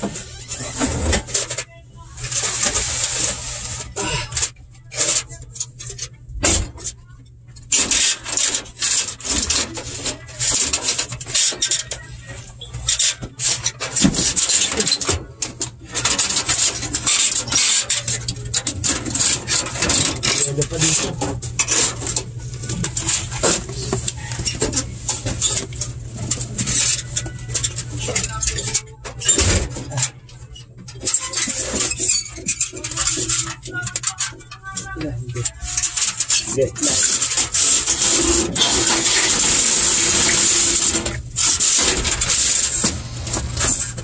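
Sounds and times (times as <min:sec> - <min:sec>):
heater element scraping sheet metal: 0:07.7 - 0:44.0.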